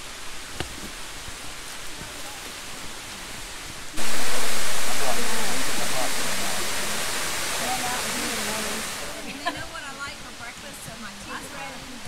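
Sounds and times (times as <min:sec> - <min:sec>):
stream water rushing over rock: 0:00.0 - 0:12.0
faint distant voices: 0:01.8 - 0:12.0.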